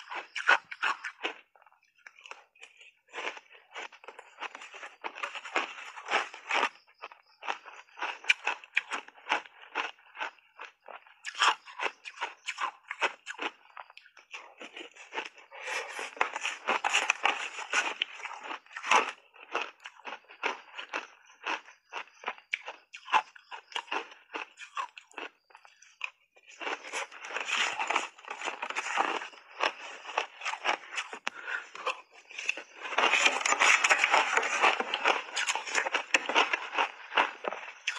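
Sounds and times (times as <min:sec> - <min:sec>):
crunching and chewing shaved ice: 0:00.0 - 0:37.9.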